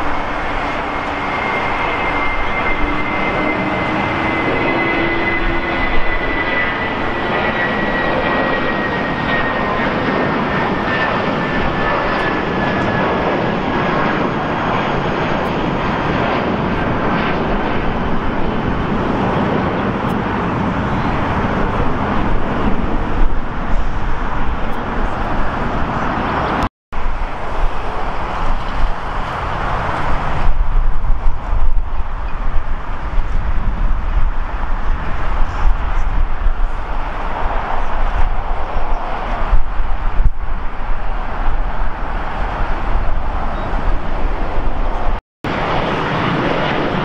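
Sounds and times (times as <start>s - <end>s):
jet engines at takeoff: 0.0s - 47.0s.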